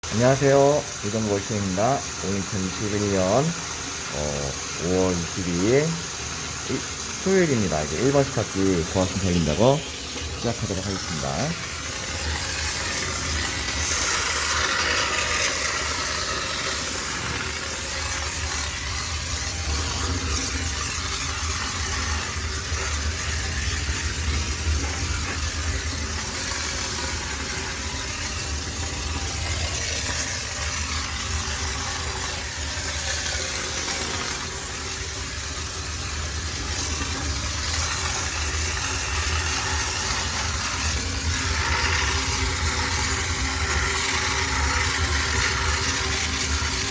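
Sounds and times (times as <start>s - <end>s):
machinery humming: 0.0s - 46.9s
steam hissing: 0.0s - 46.9s.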